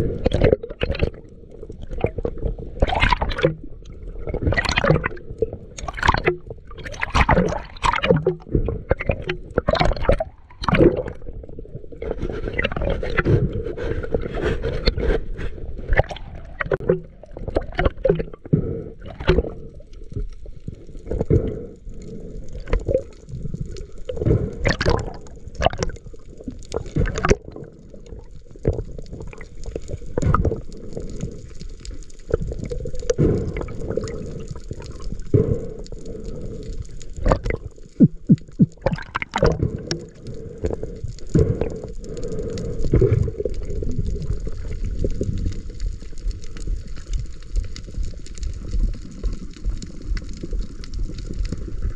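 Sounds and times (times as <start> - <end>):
knocks and clicks underwater: 0.0 - 51.9
muffled underwater water sloshing: 0.0 - 51.9.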